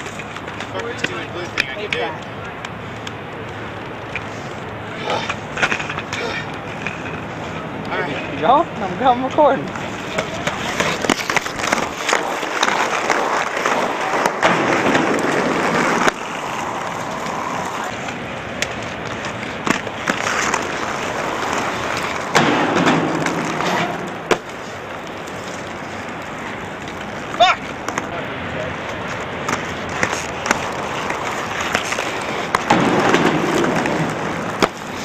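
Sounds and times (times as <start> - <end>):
inline skate wheels rolling on asphalt: 0.0 - 35.0.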